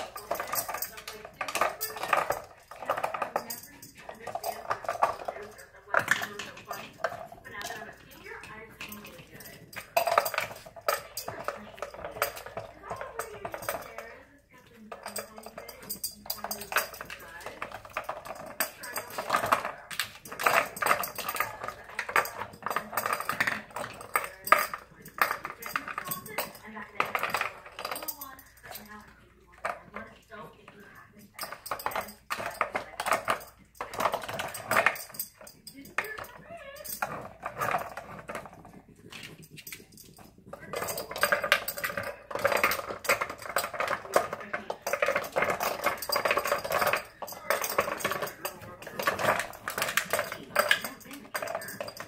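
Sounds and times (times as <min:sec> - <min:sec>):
plastic toy clicking and rattling: 0:00.0 - 0:52.0.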